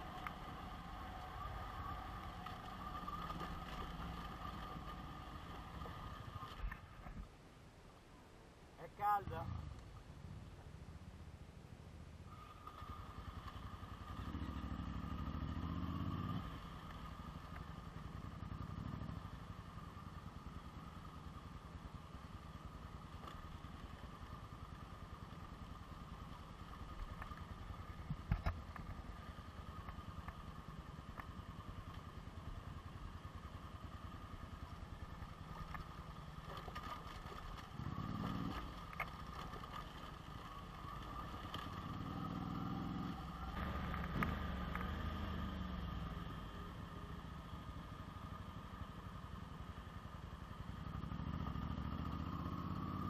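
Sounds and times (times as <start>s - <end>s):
motorcycle engine running: 0.0s - 7.0s, 12.5s - 53.0s.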